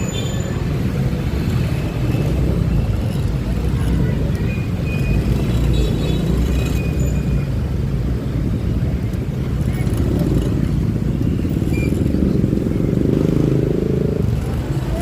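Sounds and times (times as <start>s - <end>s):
surrounding traffic: 0.0s - 15.0s.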